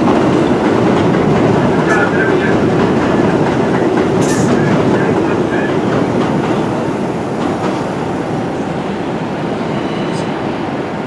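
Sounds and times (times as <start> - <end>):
subway train rumbling on rails: 0.0 - 11.0.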